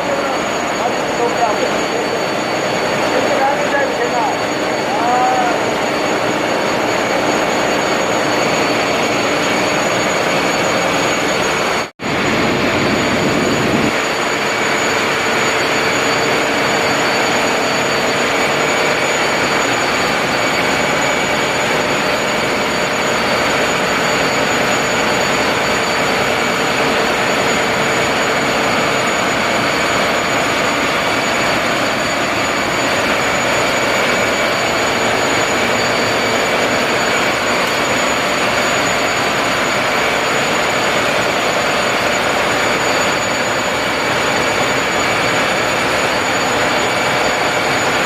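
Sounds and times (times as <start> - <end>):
high machinery whines: 0.0 - 48.0
ship engines running: 0.0 - 48.0.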